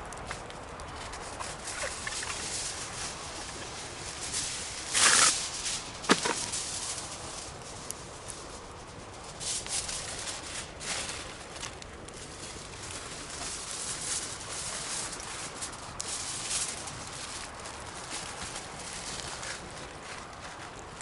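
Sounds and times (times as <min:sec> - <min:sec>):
bonfire flames hissing: 0:00.0 - 0:21.0
wood crackling and popping: 0:00.0 - 0:21.0.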